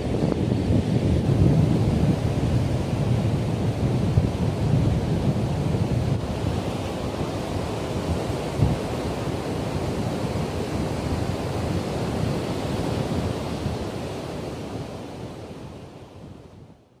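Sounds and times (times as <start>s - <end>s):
strong wind buffeting microphone: 0.0s - 16.9s.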